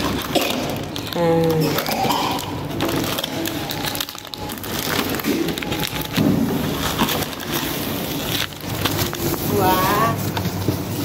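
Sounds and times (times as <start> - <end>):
plastic wrappers crinkling: 0.0 - 11.0.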